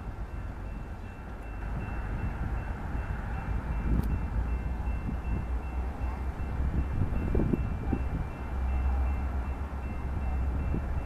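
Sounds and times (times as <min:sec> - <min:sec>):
distant train rumble: 0:00.0 - 0:11.0.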